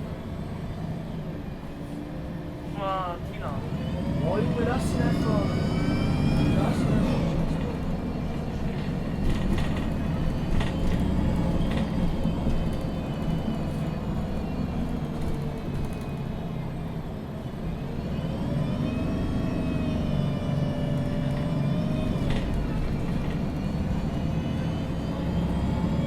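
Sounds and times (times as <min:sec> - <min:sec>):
bus engine running low: 0:00.0 - 0:26.0
rising whine of accelerating bus: 0:00.0 - 0:26.0
bus body rattling: 0:03.0 - 0:26.0.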